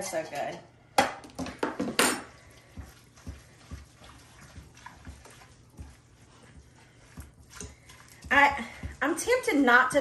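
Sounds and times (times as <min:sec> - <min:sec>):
wet food mixing sounds: 0:00.0 - 0:10.0.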